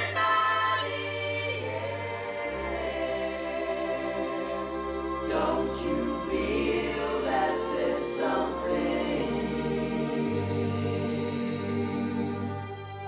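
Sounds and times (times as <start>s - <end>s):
soft rock song with vocal harmonies: 0.0s - 12.3s.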